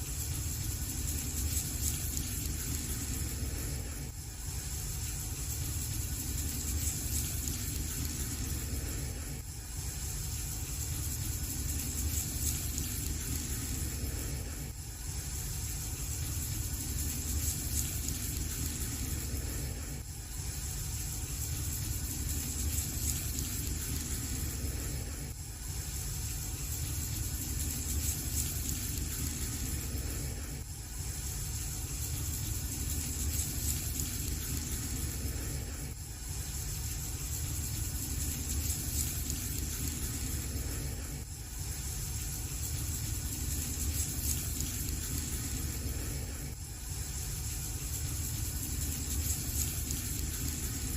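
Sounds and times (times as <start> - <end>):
wood fire rumbling and crackling: 0.1 - 50.9.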